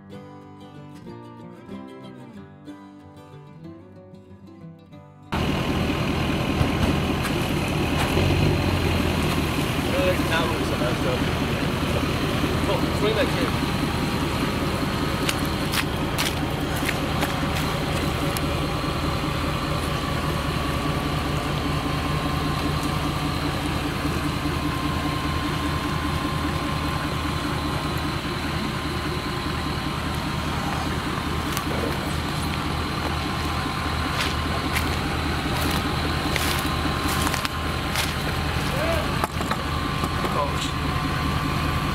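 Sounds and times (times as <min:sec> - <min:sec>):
truck engine idling: 0:05.3 - 0:41.9.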